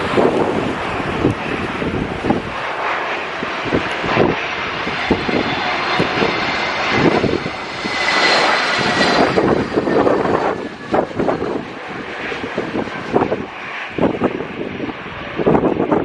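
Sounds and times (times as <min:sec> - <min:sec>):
jet engines whining: 0:00.0 - 0:16.0
wind buffeting microphone: 0:00.0 - 0:16.0.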